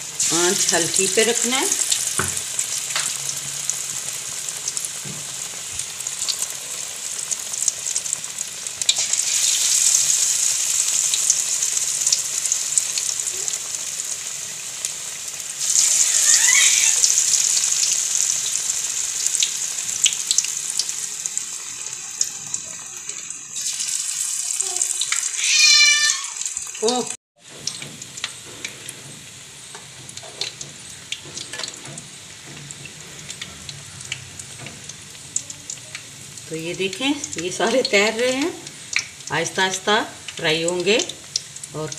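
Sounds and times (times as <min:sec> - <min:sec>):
deep-frying sizzle with crackles: 0:00.0 - 0:41.9.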